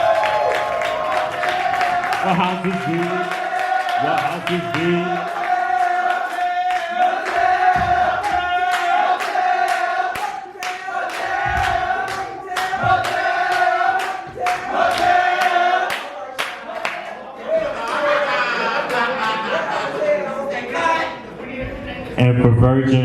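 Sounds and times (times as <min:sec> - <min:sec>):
crowd chanting: 0:00.0 - 0:21.7.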